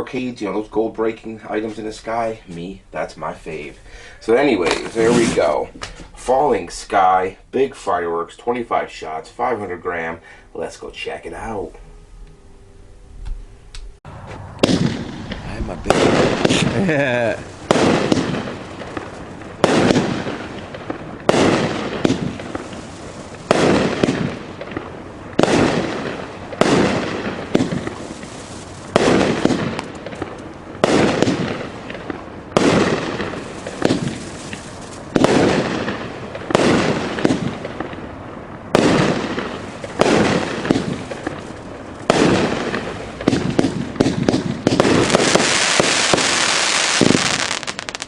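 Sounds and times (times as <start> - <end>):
firework shots: 0.0 - 10.1, 14.1 - 48.0
firework fizz and crackle: 0.1 - 8.7, 14.2 - 48.0.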